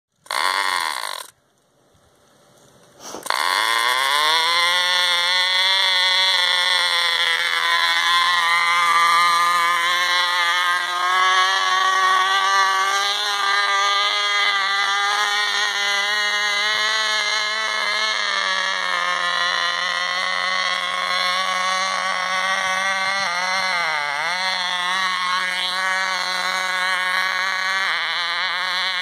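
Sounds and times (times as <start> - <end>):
model engine buzzing: 0.1 - 1.4, 3.0 - 29.0.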